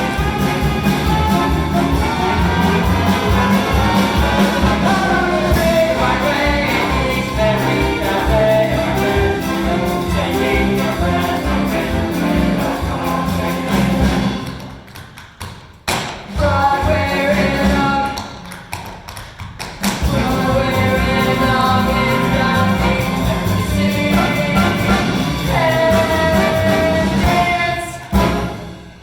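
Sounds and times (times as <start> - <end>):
jazzy brass show music: 0.0 - 15.0, 16.3 - 18.4, 19.9 - 29.0.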